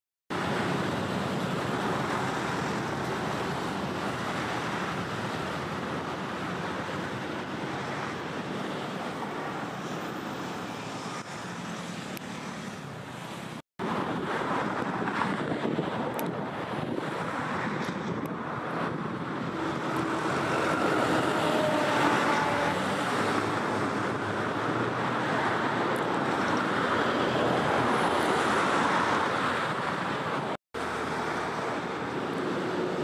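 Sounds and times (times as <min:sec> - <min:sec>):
rushing river current: 0:00.3 - 0:33.0.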